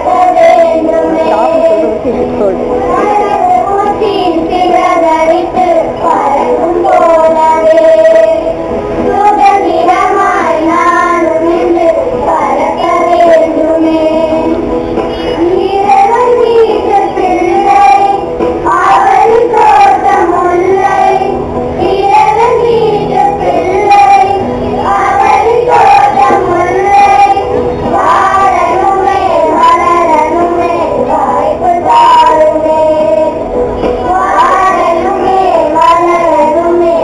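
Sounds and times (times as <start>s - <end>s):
backing music: 0.0s - 37.0s.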